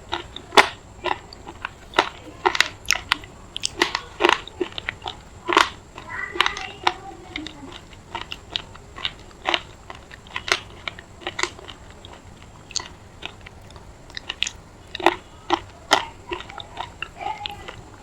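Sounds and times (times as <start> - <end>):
person chewing crunchy clay: 0.0 - 18.0.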